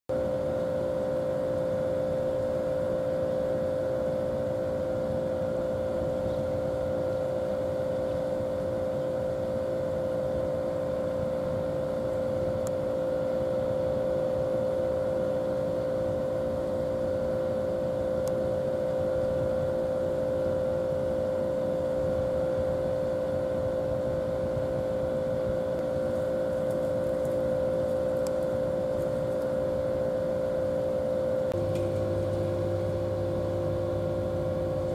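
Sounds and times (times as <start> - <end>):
steady machine hum: 0.1 - 34.9.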